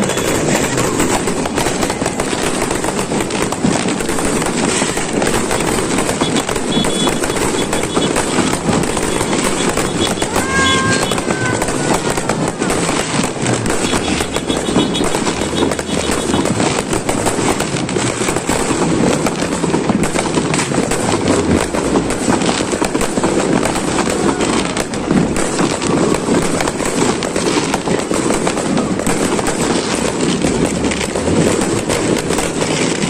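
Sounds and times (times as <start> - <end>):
firecrackers crackling: 0.0 - 33.0.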